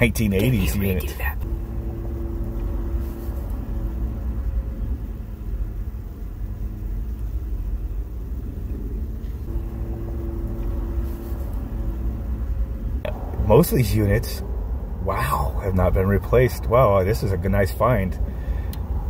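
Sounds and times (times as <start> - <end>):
faint steady hum: 0.0 - 19.0
vehicle rumble from inside: 0.0 - 19.0.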